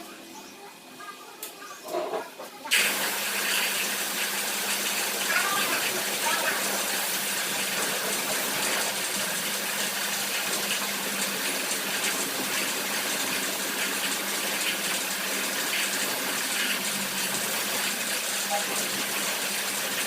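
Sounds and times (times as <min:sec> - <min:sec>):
pressure washer spraying water: 0:02.7 - 0:20.0
pump motor humming: 0:02.7 - 0:20.0.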